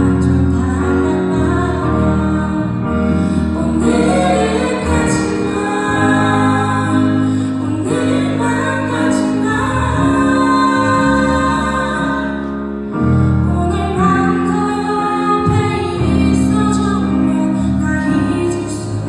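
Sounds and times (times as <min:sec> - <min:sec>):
woman singing: 0:00.0 - 0:12.6, 0:13.4 - 0:19.0.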